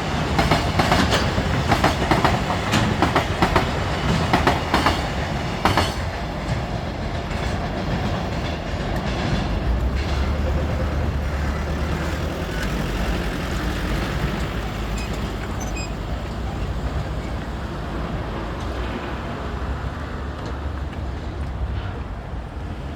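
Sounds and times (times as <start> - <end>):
wheels clicking over rail joints: 0.0 - 19.0
freight train rumble: 0.0 - 22.9.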